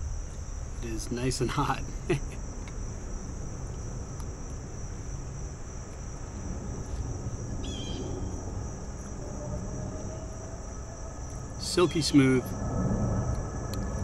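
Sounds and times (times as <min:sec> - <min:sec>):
insects chirring: 0:00.0 - 0:14.0
low background rumble: 0:00.0 - 0:14.0.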